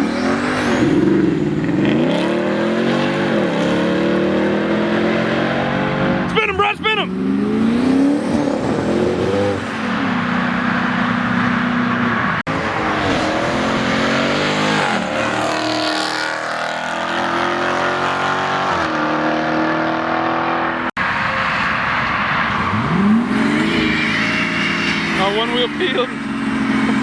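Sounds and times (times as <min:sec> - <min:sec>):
car engines revving and accelerating: 0:00.0 - 0:27.0.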